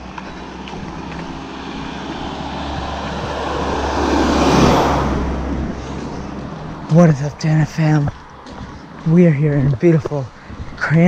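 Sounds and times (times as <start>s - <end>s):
van driving past: 0.0s - 9.2s.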